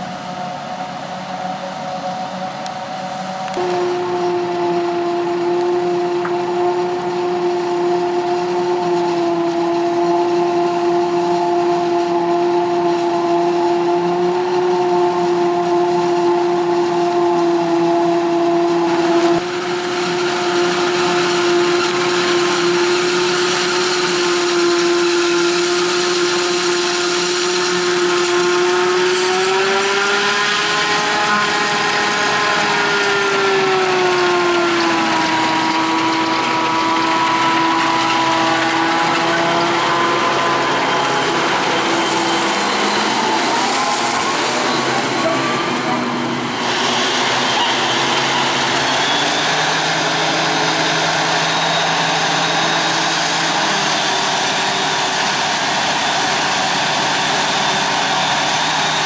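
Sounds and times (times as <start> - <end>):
forage harvester chopping gear whine: 0.0 - 59.0
harvester engine: 0.0 - 59.0
chopped crop rushing through: 2.9 - 59.0.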